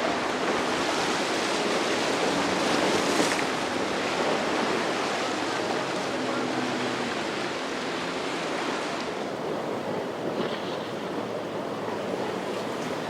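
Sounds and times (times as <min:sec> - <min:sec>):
waves breaking: 0:00.0 - 0:13.0.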